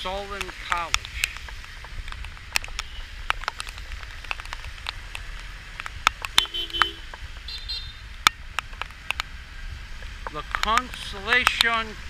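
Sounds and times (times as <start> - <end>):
raindrops tapping on camera housing: 0.0 - 12.0
steady rain: 0.0 - 12.0
street noise: 0.0 - 12.0.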